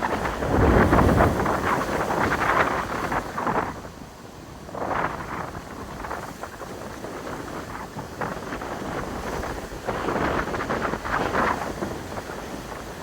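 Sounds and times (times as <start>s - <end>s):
surf washing up beach: 0.0s - 13.0s
wind rumbling on microphone: 0.0s - 13.0s.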